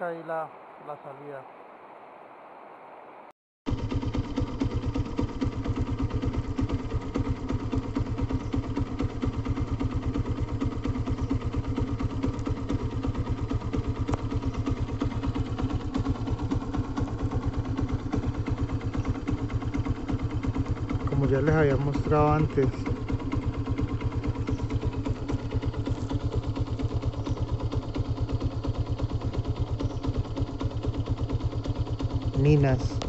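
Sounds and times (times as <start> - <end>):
motorcycle engine running: 3.7 - 33.0.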